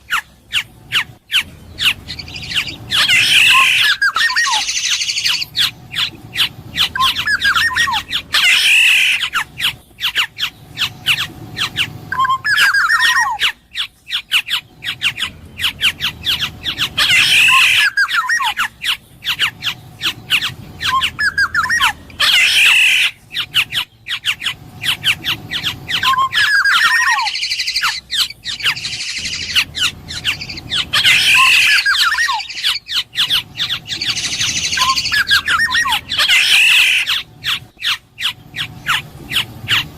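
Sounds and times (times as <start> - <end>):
bird squawks and whistles: 0.0 - 39.9.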